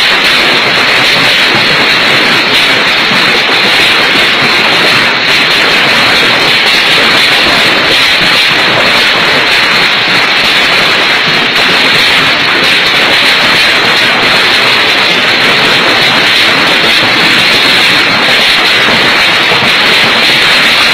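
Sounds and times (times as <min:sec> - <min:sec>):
hail and strong wind: 0:00.0 - 0:20.9.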